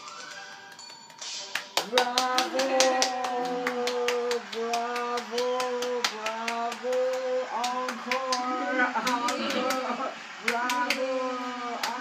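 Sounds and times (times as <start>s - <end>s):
hands clapping: 0.1s - 12.0s.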